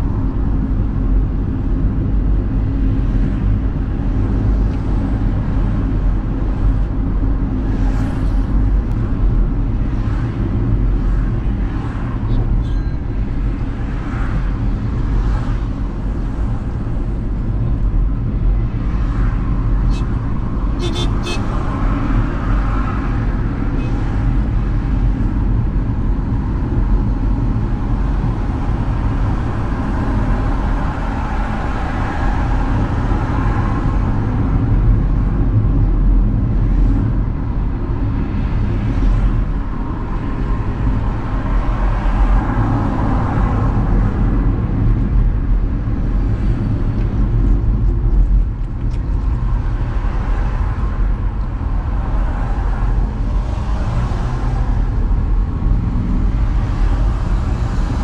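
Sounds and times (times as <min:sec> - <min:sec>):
car road noise from inside: 0:00.0 - 0:58.0.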